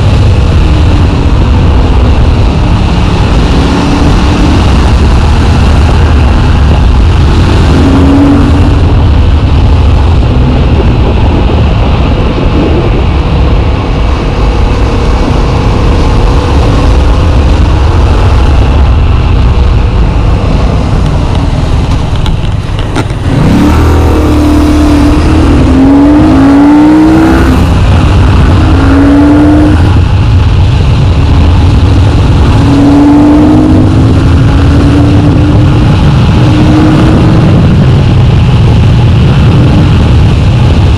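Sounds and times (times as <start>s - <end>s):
heavy wind noise: 0.0s - 40.9s
motorcycle engine running: 0.0s - 40.9s.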